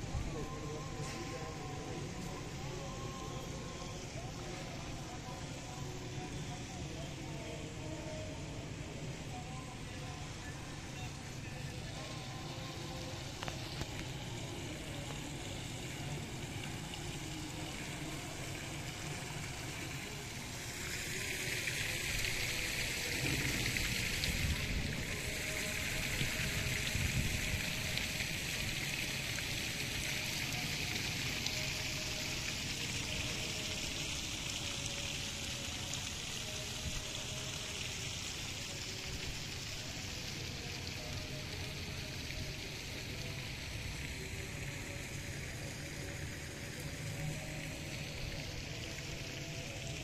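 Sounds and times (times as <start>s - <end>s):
hissing outdoor background noise: 0.0s - 50.0s.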